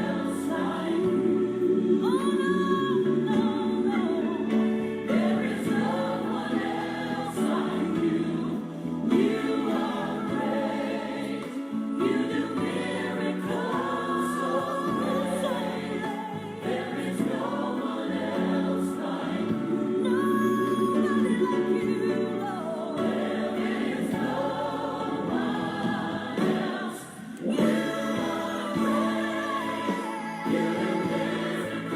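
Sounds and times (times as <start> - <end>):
choir singing gospel song: 0.0 - 31.9.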